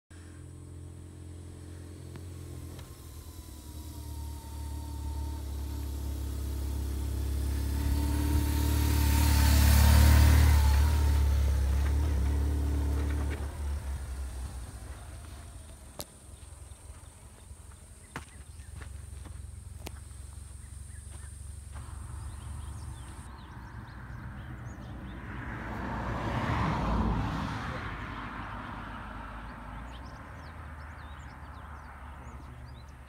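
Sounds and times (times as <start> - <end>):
motorcycle engine passing: 0.2 - 32.9.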